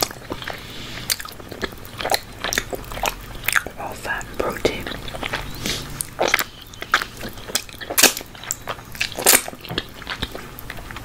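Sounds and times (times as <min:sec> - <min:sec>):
close-miked chewing: 0:00.0 - 0:11.0
wet mouth clicks: 0:00.0 - 0:11.0.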